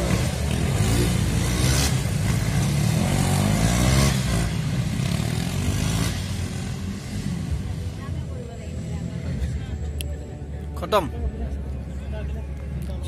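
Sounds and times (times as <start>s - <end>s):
racing motorcycles revving: 0.0s - 13.0s.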